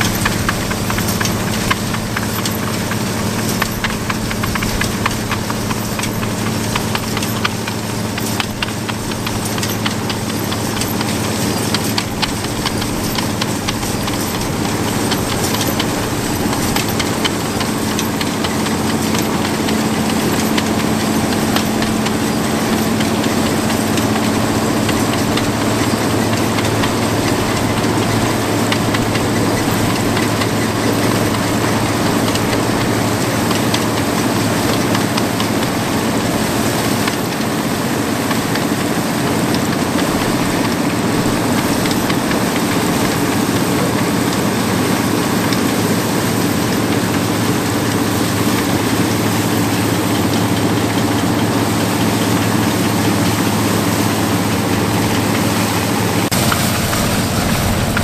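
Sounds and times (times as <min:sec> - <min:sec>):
clatter of threshing gear: 0:00.0 - 0:58.0
combine harvester engine hum: 0:00.0 - 0:58.0.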